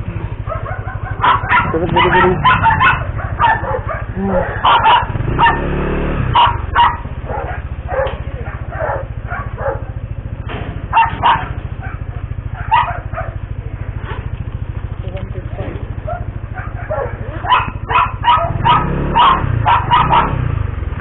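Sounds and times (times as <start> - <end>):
motorcycle engine idling: 0.0 - 21.0
dog barking: 0.3 - 13.6, 15.9 - 20.5.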